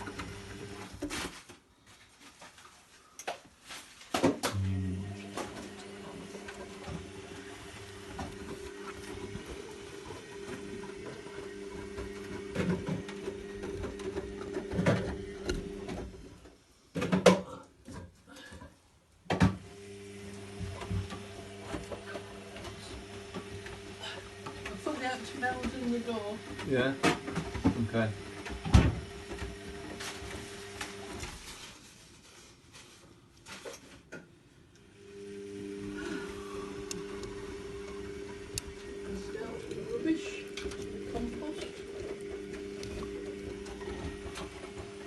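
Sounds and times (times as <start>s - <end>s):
washing machine humming: 0.0s - 1.2s, 4.2s - 17.2s, 19.3s - 31.8s, 34.5s - 45.0s.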